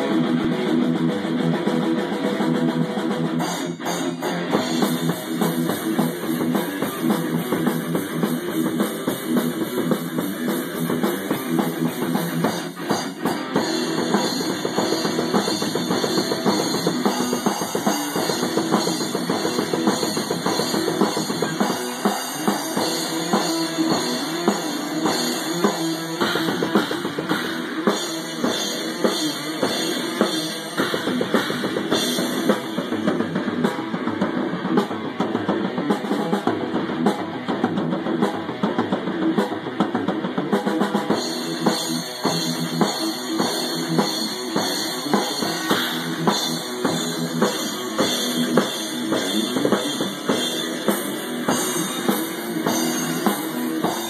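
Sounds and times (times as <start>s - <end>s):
electric guitar through amplifier: 0.0s - 54.0s
rock drum kit beat: 0.0s - 54.0s.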